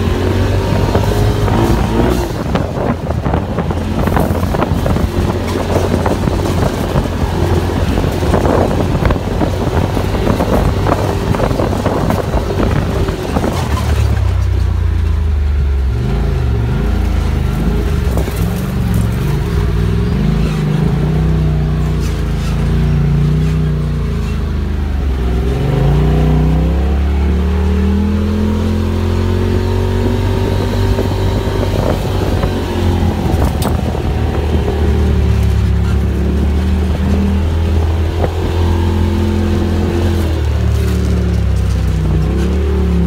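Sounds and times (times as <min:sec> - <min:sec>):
vehicle engine droning: 0:00.0 - 0:43.0
vehicle body rattling: 0:00.6 - 0:15.3, 0:16.6 - 0:24.6, 0:30.2 - 0:43.0.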